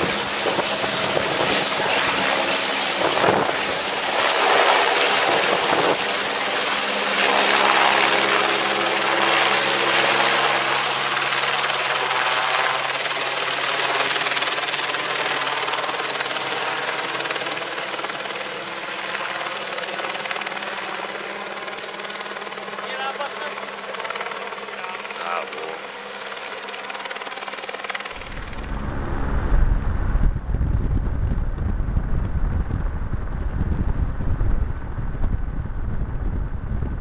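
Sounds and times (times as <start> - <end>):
helicopter rotor and turbine: 0.0 - 37.0.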